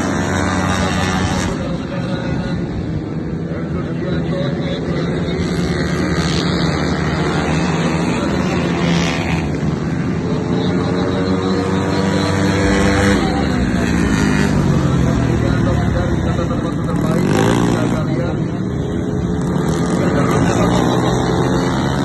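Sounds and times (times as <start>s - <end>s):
scooter engines revving high: 0.0s - 22.0s.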